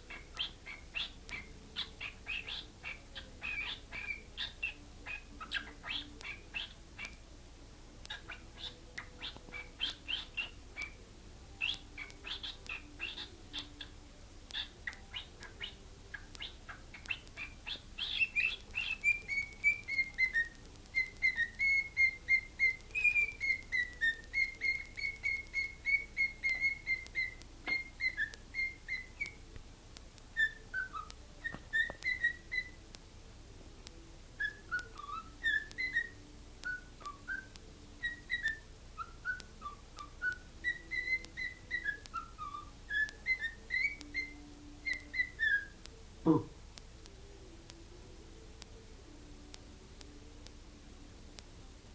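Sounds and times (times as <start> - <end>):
bird chirps: 0.0 - 7.2, 8.1 - 29.5, 30.4 - 32.8, 33.9 - 46.4
bird whistling a tune: 0.1 - 7.2, 8.1 - 11.0, 11.6 - 29.4, 30.4 - 32.8, 34.4 - 45.8.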